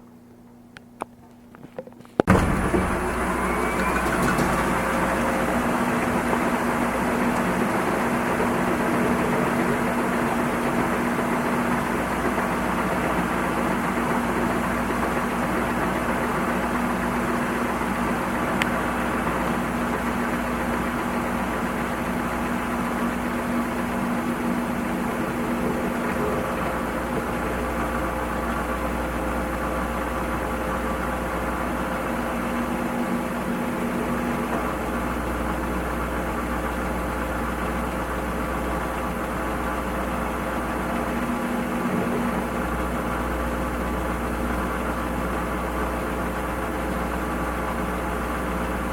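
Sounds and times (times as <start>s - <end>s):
washing machine running: 2.1s - 48.9s.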